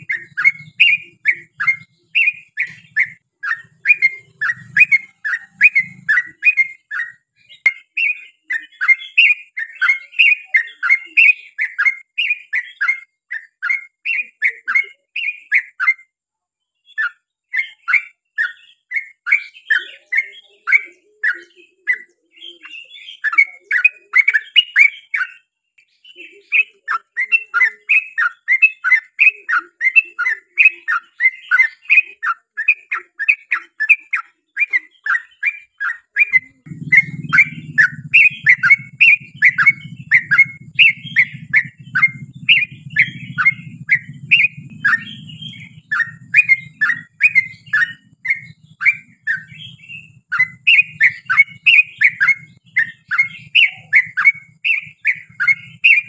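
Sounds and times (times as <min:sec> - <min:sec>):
bird singing rapid chirps: 0:00.0 - 0:16.1, 0:16.7 - 0:56.0.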